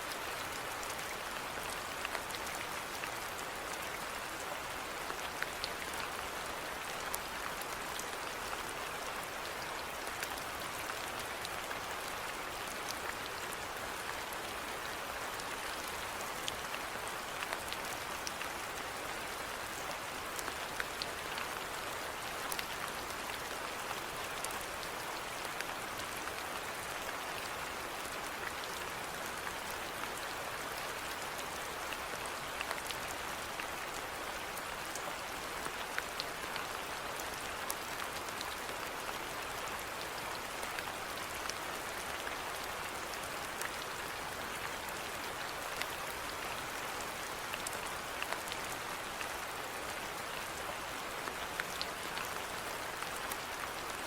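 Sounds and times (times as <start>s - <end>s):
steady rainfall hiss: 0.0s - 54.0s.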